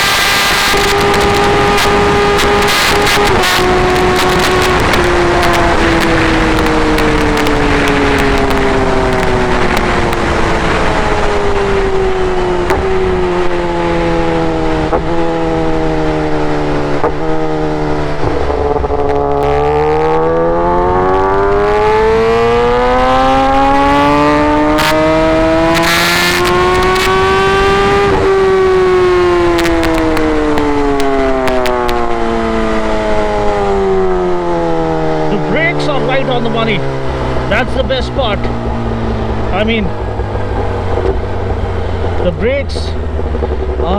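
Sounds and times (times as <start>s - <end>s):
motorcycle engine: 0.0s - 43.9s.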